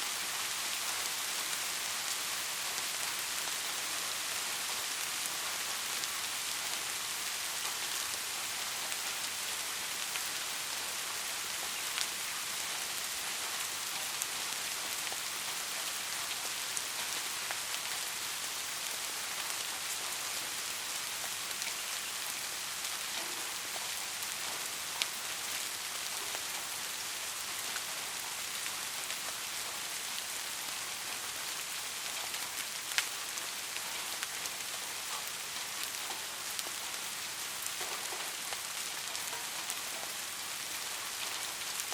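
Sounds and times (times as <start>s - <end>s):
steady rainfall hissing: 0.0s - 41.9s.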